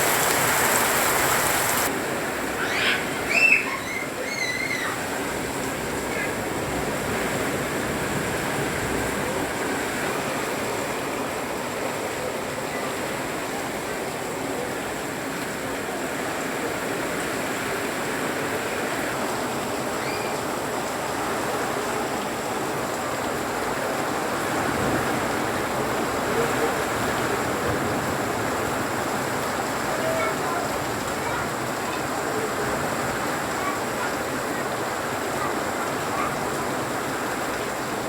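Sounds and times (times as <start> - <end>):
heavy rain: 0.0 - 38.0
rushing water: 0.0 - 38.0.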